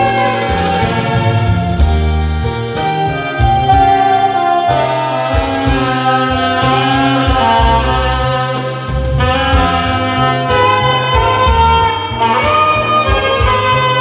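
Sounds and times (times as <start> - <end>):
alto saxophone melody: 0.0 - 14.0
musical accompaniment with bass: 0.0 - 14.0.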